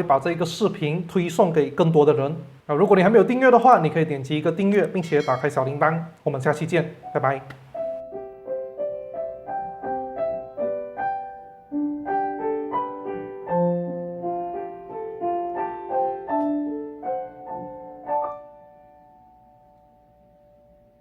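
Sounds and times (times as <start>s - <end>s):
gentle piano music: 2.8s - 21.0s.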